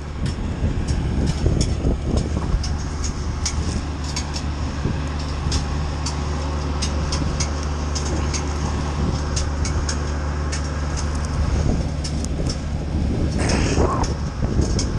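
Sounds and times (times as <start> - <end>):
machinery humming: 0.0 - 14.9
branches cracking in chipper: 1.0 - 14.9.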